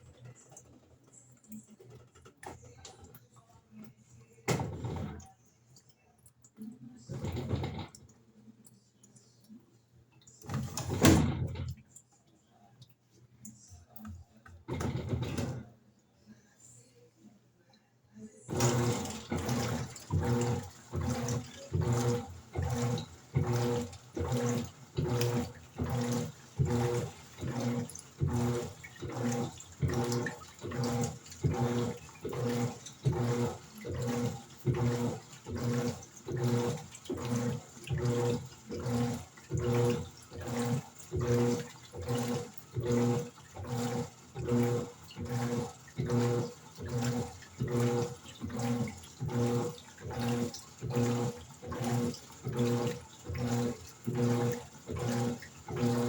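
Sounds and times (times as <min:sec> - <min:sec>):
washing machine agitating: 0:00.0 - 0:12.2, 0:12.8 - 0:15.8, 0:18.4 - 0:56.0.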